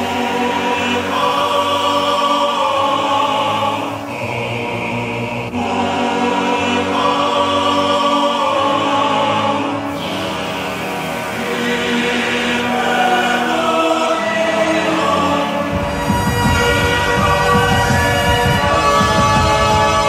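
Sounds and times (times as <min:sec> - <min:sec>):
music with long held chords: 0:00.0 - 0:20.0.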